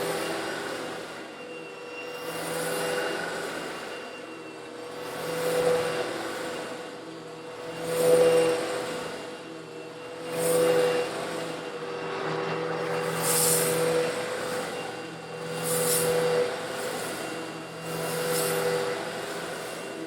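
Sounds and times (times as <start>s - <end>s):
vacuum cleaner motor hum: 0.0s - 20.0s.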